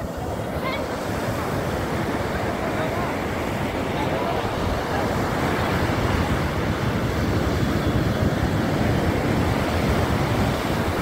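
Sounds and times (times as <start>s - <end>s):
surf breaking on beach: 0.0s - 11.0s
wind rumble on microphone: 0.0s - 11.0s.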